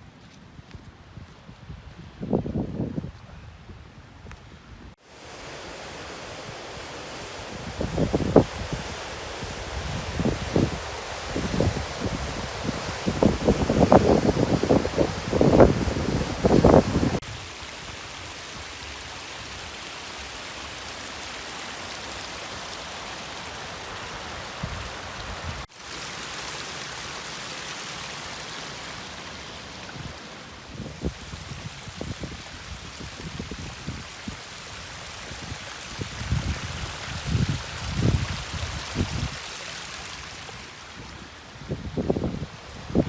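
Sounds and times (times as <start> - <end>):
stream rushing: 5.0 - 43.0.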